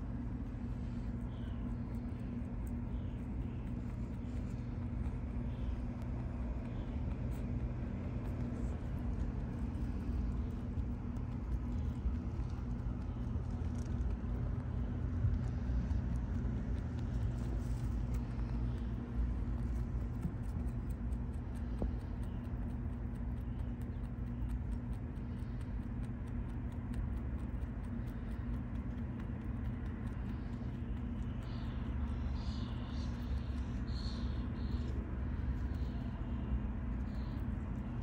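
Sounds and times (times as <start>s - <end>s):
low mechanical hum: 0.0s - 38.0s
rabbit chewing greens: 0.0s - 38.0s.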